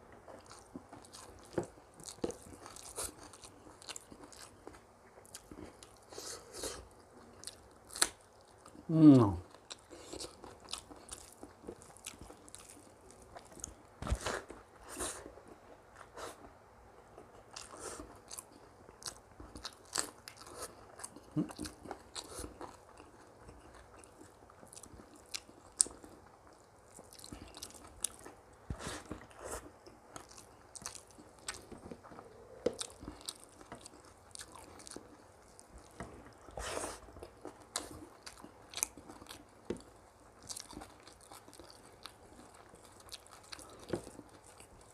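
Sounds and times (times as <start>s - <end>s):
person chewing food: 0.1s - 44.9s.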